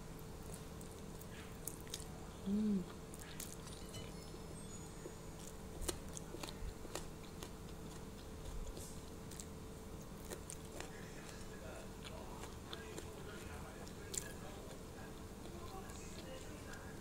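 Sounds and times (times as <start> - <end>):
low steady hum: 0.0 - 17.0
person chewing crunchy food: 0.2 - 16.9.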